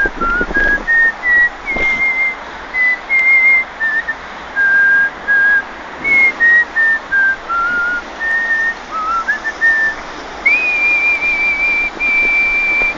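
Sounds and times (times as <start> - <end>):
man whistling a melody: 0.0 - 12.9.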